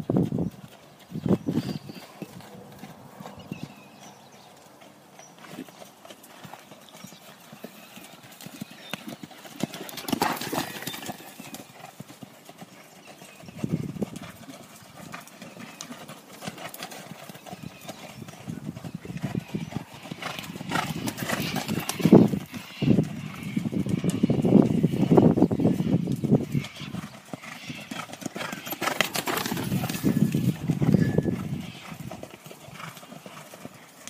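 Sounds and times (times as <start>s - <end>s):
horse hoofbeats on sand: 0.0s - 34.0s.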